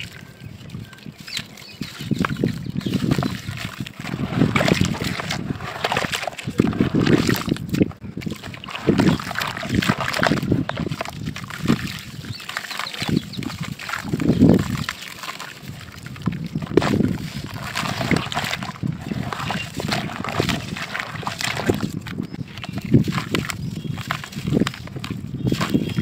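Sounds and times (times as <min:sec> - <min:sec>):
gritty mud crumbling: 0:00.0 - 0:26.0
muddy water sloshing: 0:00.0 - 0:26.0.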